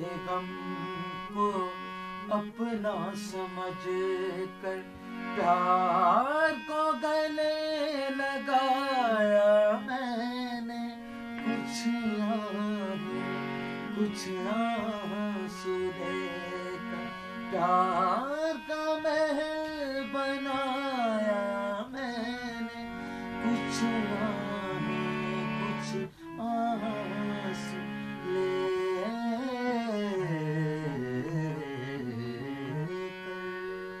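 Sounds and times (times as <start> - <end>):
harmonium chords: 0.0 - 34.0.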